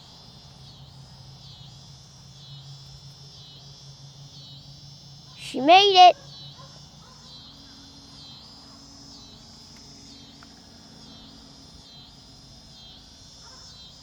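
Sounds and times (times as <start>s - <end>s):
insects trilling: 0.0s - 14.0s
low steady outdoor hum: 0.0s - 14.0s.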